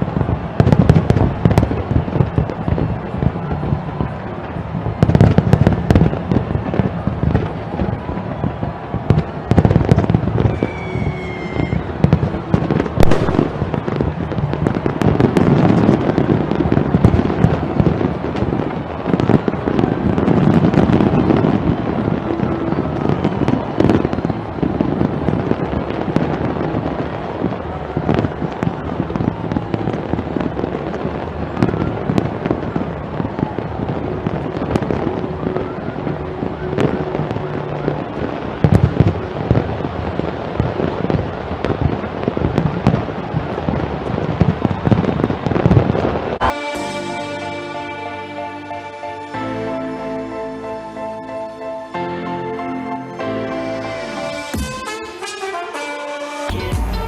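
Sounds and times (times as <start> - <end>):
firework whistle: 0.0 - 43.0, 44.0 - 57.0
fireworks bangs and crackling: 0.0 - 55.9, 56.5 - 57.0.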